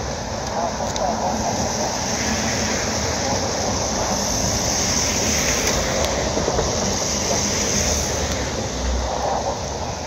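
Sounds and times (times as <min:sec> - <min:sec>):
traffic rumble and hiss: 0:00.0 - 0:10.0.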